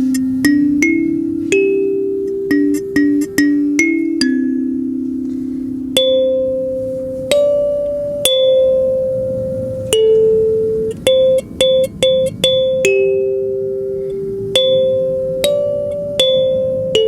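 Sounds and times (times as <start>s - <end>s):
kalimba melody: 0.0s - 17.0s.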